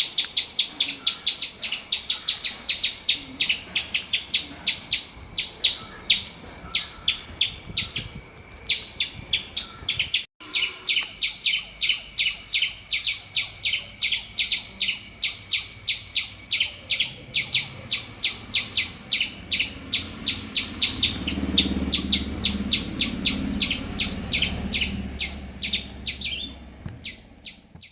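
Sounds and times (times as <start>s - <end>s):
squirrel chirping: 0.0s - 27.9s.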